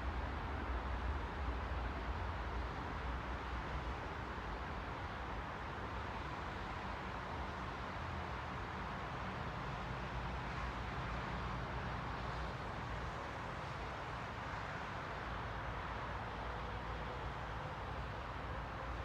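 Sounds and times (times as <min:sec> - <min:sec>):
ambient rumble and hiss: 0:00.0 - 0:19.0.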